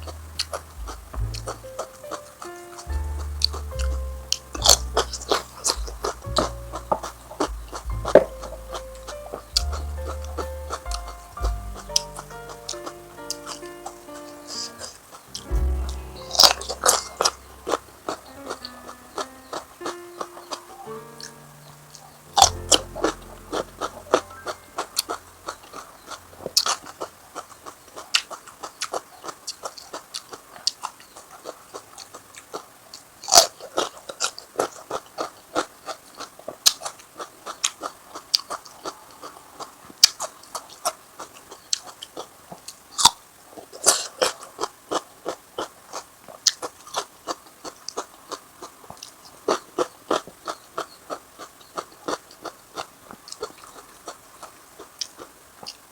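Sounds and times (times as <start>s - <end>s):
person chewing crunchy food: 0.0s - 21.4s, 22.0s - 55.9s.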